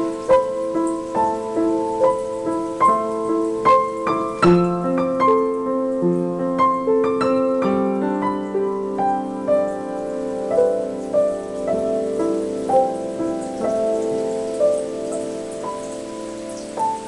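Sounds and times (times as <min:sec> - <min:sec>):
solo piano melody: 0:00.0 - 0:17.0.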